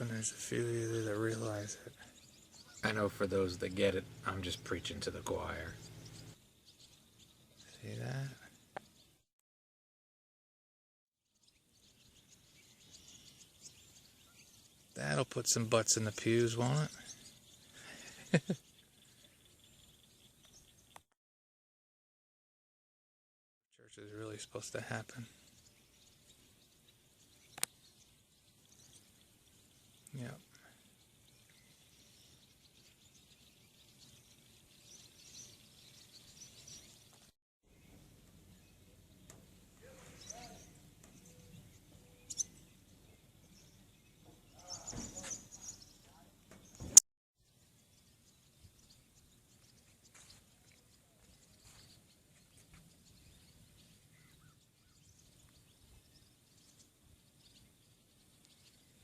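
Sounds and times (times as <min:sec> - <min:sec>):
distant small birds chirping: 0:00.0 - 0:09.3, 0:11.3 - 0:21.1, 0:23.8 - 0:59.0.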